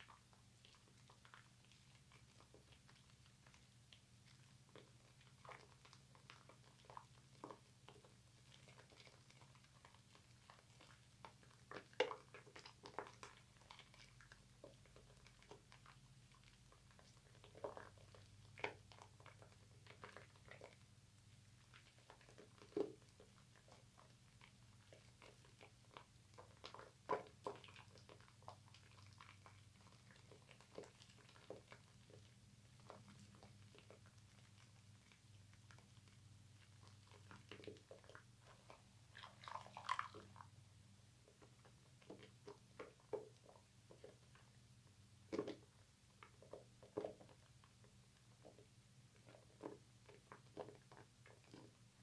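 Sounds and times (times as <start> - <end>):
soapy hands squishing: 0.0 - 52.0.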